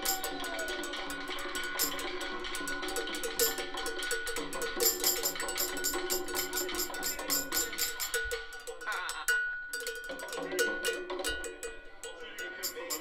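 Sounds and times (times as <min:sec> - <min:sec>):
cowbell struck with stick: 0:00.0 - 0:13.0.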